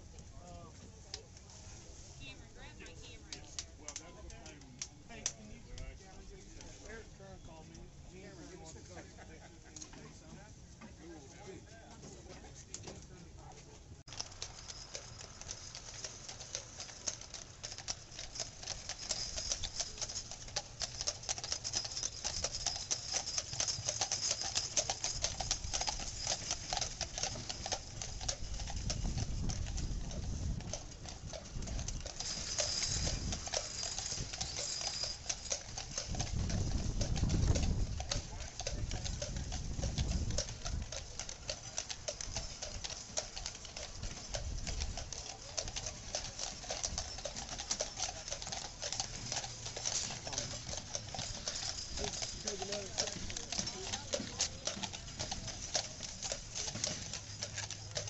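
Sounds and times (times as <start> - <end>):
horses clip-clopping on pavement: 0.0 - 58.0
low rumble of wheels rolling: 0.0 - 58.0.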